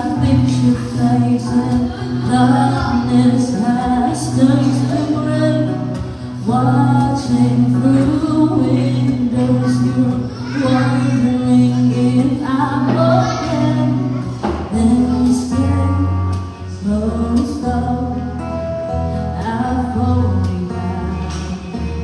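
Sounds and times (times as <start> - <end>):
acoustic guitar: 0.0 - 22.0
person singing: 0.0 - 22.0.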